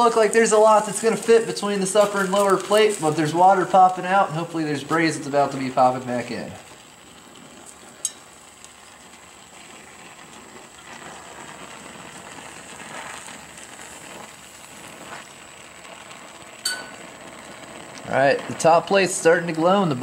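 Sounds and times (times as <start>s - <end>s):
torch flame hissing: 0.0s - 20.0s
water sizzling and popping: 0.0s - 20.0s.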